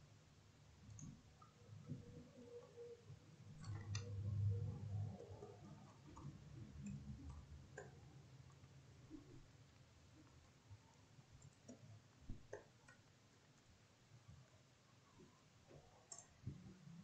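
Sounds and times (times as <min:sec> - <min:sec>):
faint keyboard typing: 0:00.7 - 0:17.0.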